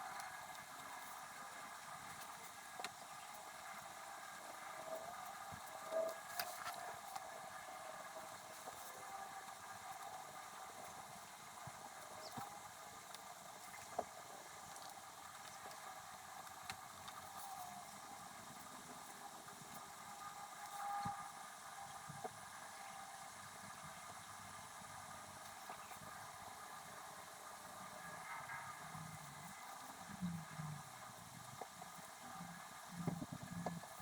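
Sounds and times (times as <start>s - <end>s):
steady low hiss: 0.0s - 34.0s.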